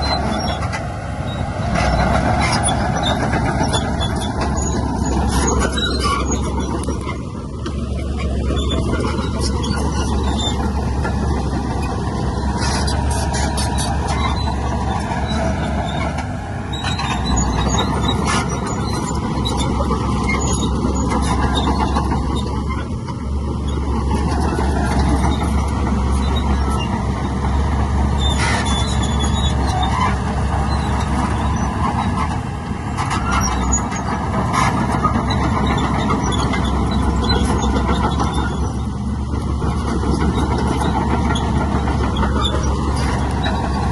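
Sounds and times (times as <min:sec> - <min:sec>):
diesel machinery engine drone: 0:00.0 - 0:43.9.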